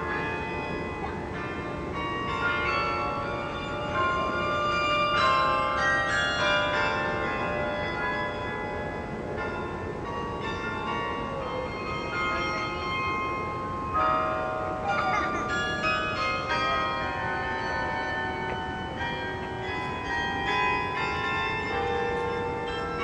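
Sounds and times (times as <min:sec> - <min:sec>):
carillon bells playing a tune: 0:00.0 - 0:23.0.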